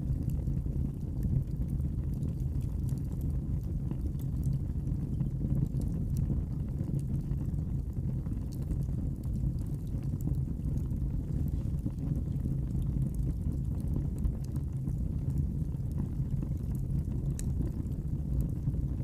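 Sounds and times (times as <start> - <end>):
fire crackling: 0.0 - 19.0
wood fire rumbling: 0.0 - 19.0.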